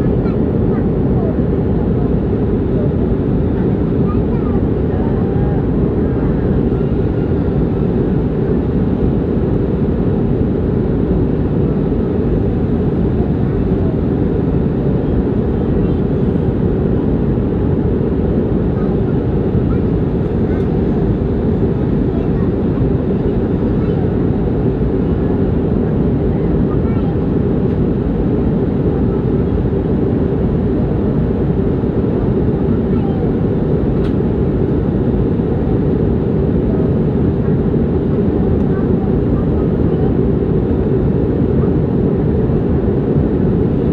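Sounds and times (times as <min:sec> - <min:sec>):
airliner cabin rumble: 0:00.0 - 0:43.9
jet engines and rushing air: 0:00.0 - 0:43.9.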